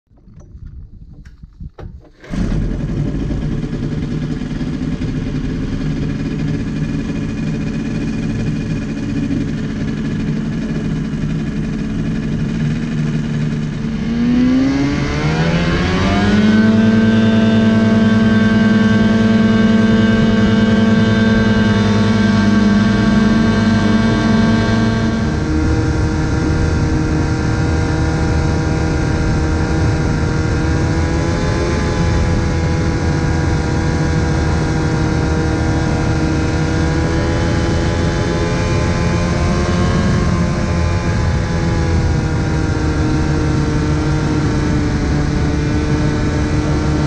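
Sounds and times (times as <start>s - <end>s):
propeller engine starting and revving: 0.1s - 47.0s.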